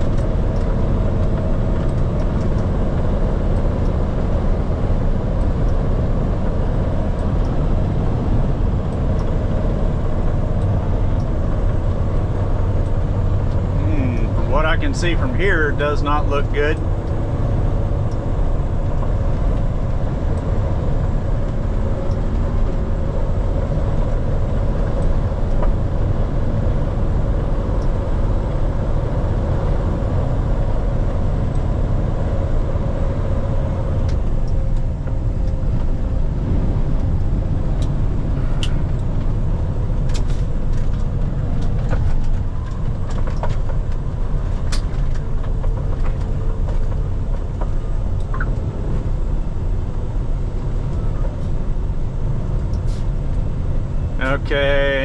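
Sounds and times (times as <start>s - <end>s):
truck engine rumble: 0.0s - 55.0s.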